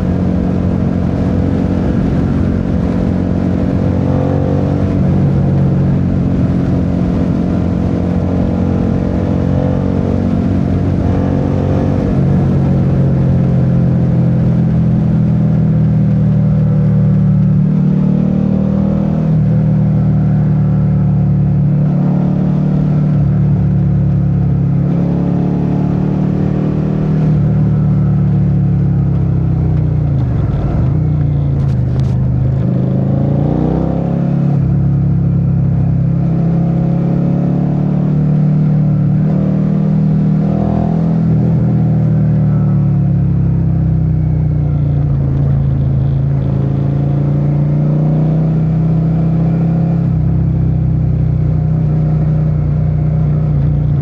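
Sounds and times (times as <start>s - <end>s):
motorcycle engine running: 0.0s - 36.6s, 38.3s - 49.2s, 49.8s - 54.0s.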